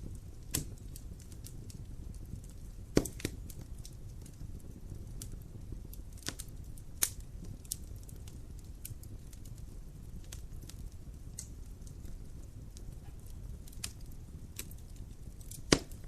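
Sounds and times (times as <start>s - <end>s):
low rumble of burning logs: 0.0s - 16.0s
wood fire crackling: 0.0s - 16.0s
sharp pops and snaps: 0.1s - 16.0s.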